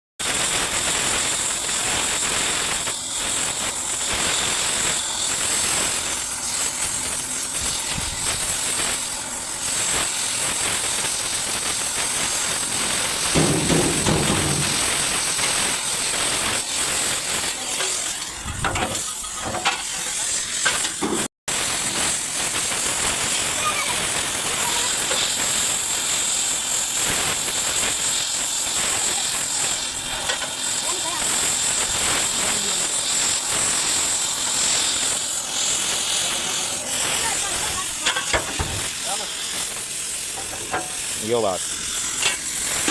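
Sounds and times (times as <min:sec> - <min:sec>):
cutting torch hissing: 0:00.2 - 0:42.9.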